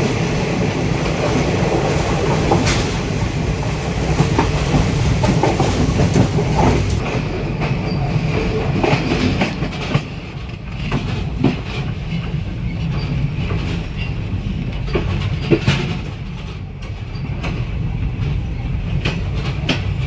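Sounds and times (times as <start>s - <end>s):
train rumbling: 0.0s - 20.0s
train wheels clacking: 0.0s - 20.0s.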